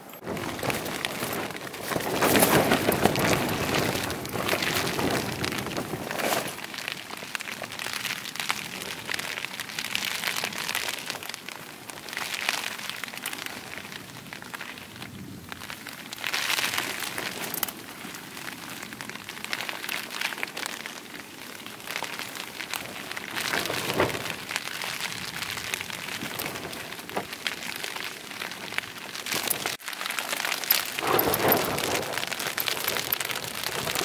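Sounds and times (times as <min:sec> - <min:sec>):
gusting wind: 0:00.0 - 0:34.0
rain pattering on canvas tent: 0:00.0 - 0:34.0.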